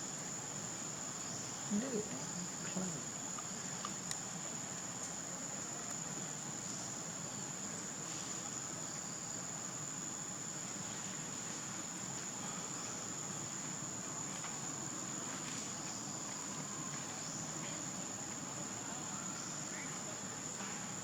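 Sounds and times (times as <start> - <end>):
faint background noise: 0.0 - 21.0
insects trilling: 0.0 - 21.0.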